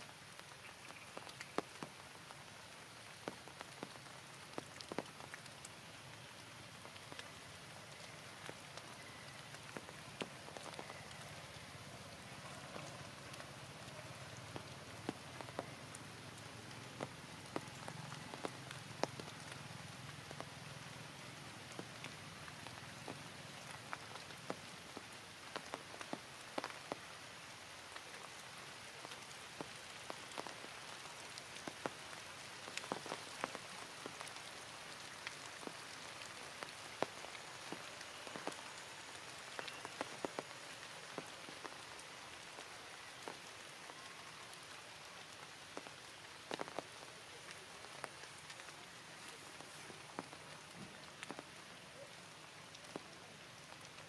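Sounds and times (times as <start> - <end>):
steady rain: 0.0 - 54.0
sharp raindrop hits: 6.4 - 27.0, 29.0 - 54.0.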